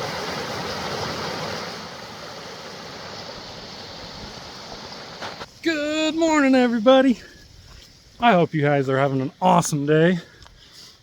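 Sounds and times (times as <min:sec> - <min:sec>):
mountain creek rushing: 0:00.0 - 0:10.4.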